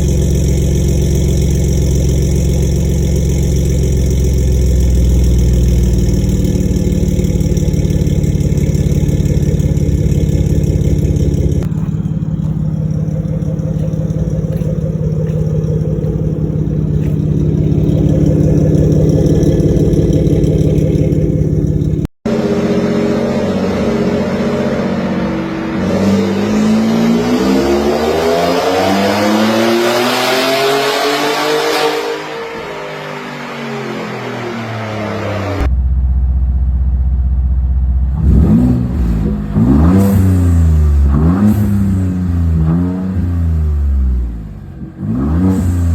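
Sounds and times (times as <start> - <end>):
truck engine idling and accelerating: 0.0 - 45.9.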